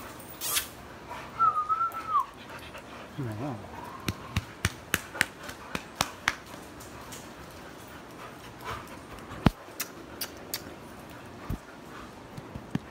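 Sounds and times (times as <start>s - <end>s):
dog panting: 2.0s - 12.9s.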